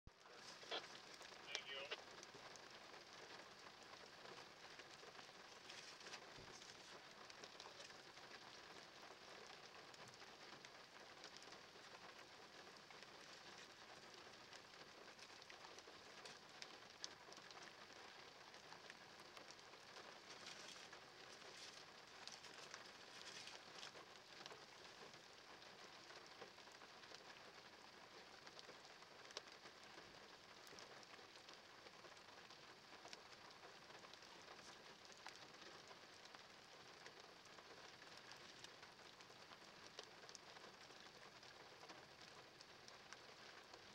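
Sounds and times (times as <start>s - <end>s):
light rain patter: 0.1s - 43.9s.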